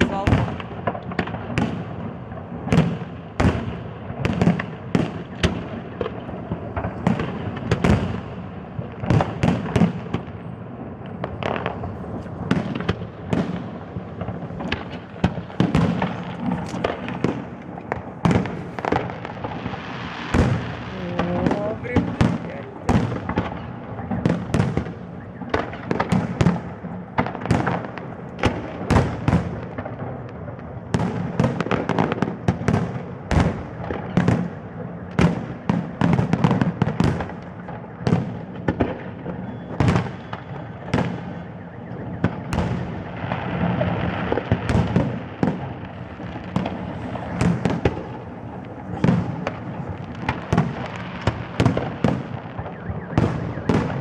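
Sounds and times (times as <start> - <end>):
continuous low rumble: 0.0 - 30.9, 40.4 - 54.0
fireworks bursting with sharp bangs: 0.0 - 54.0.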